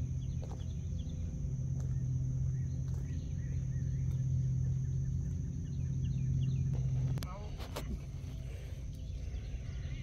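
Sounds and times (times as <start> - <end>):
birds chirping: 0.0 - 10.0
steady low hum: 0.0 - 10.0.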